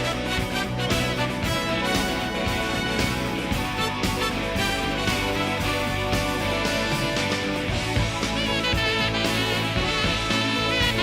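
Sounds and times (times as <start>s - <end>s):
instrumental rock music: 0.0s - 11.0s.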